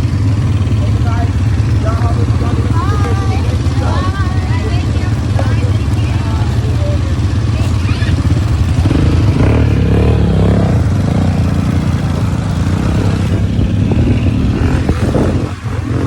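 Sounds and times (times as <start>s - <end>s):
atv engine running loudly: 0.0s - 16.0s.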